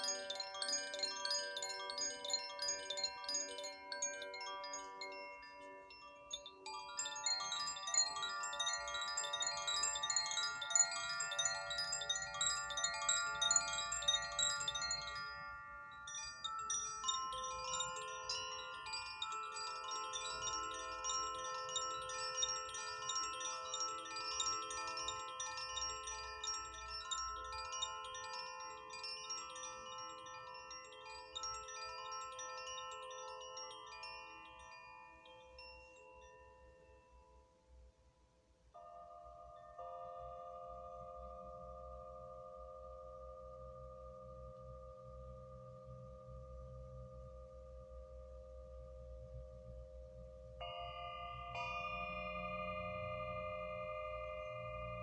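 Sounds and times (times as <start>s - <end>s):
chimes tinkling: 0.0s - 55.0s.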